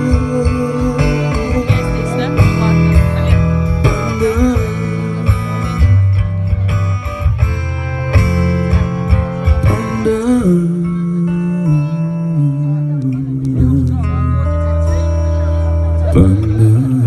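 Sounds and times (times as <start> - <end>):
bass and drums: 0.0 - 17.0
lead guitar with bent notes: 0.0 - 17.0.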